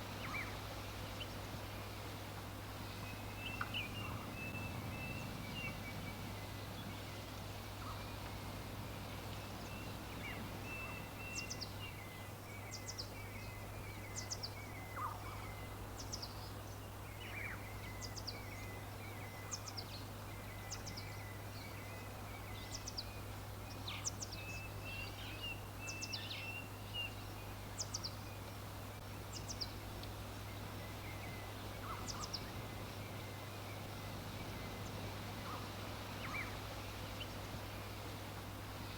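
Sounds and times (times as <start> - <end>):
background hiss: 0.0 - 38.9
birds twittering softly: 0.0 - 38.9.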